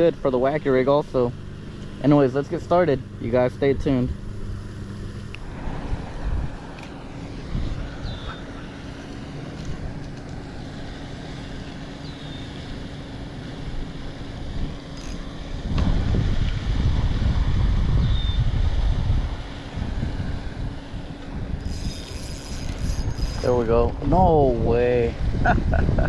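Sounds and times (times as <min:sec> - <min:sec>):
outdoor background noise: 0:00.0 - 0:26.0
wind rumbling on microphone: 0:00.0 - 0:26.0.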